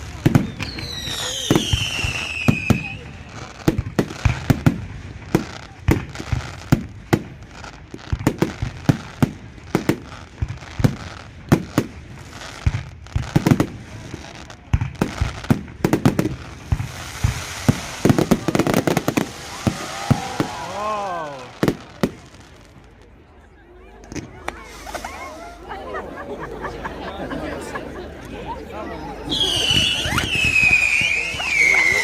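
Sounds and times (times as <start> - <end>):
fireworks bursting: 0.0 - 23.2, 24.0 - 25.8, 29.3 - 32.0.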